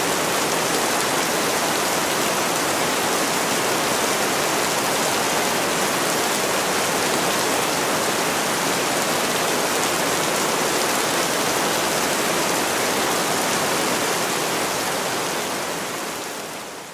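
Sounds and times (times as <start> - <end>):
steady rainfall: 0.0 - 16.9.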